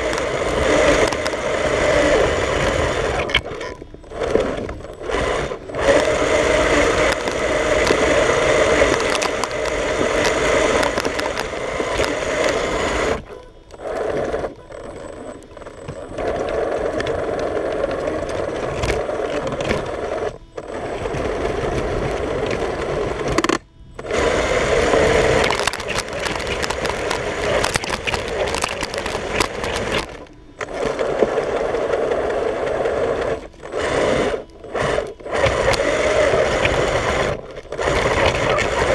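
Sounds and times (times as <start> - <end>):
toy vehicle motor whirring: 0.0 - 38.9.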